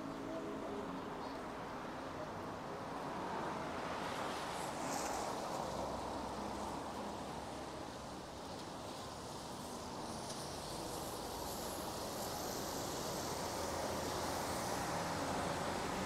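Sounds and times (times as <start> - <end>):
rain hiss on street: 0.1 - 16.0.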